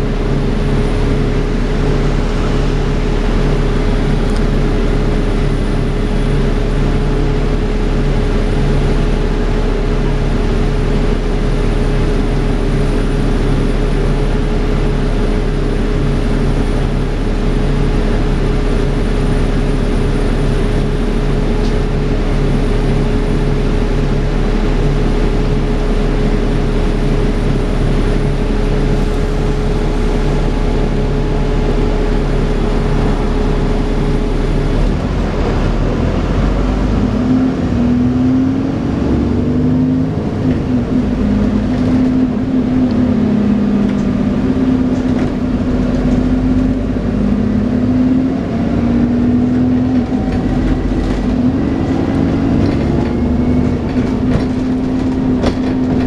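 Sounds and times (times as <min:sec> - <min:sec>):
bus engine hum: 0:00.0 - 0:56.0
cooling fan whine: 0:00.0 - 0:56.0.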